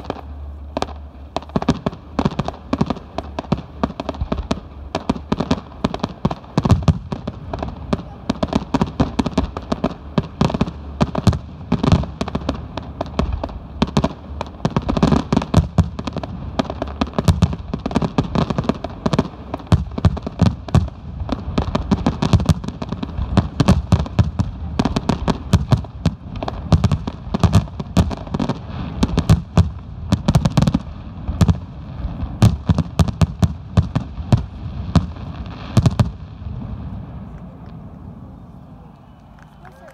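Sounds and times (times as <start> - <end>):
firework booms and cracks: 0.0 - 37.9.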